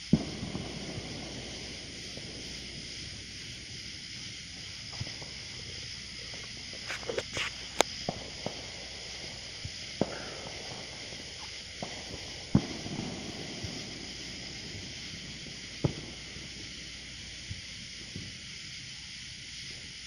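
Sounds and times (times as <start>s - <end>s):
firecrackers popping: 0.0s - 20.0s
steady high hiss: 0.0s - 20.0s.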